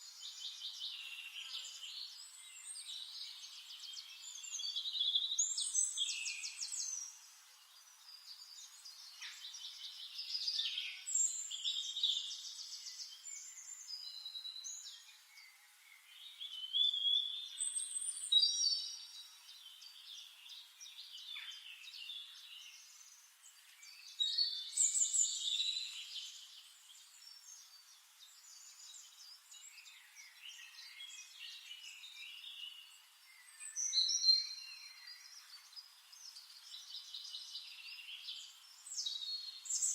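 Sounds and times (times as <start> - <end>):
small songbirds singing: 0.0 - 39.9.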